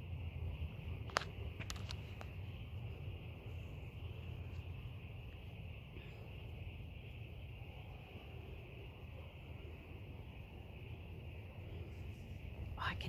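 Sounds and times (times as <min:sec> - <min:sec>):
faint high-pitched hum: 0:00.0 - 0:13.0
steady low rumble: 0:00.0 - 0:13.0.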